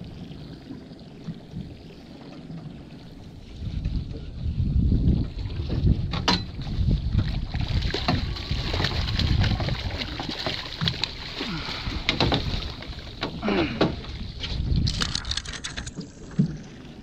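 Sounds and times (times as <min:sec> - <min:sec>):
wind on microphone: 0:00.0 - 0:16.7
water sloshing against boat hull: 0:00.0 - 0:17.0.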